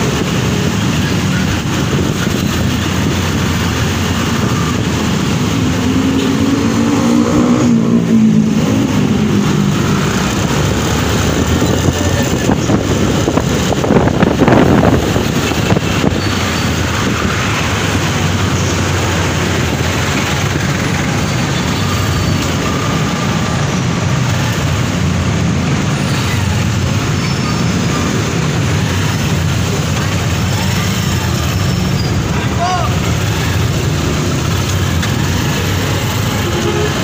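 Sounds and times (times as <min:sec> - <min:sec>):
road traffic noise: 0:00.0 - 0:37.0.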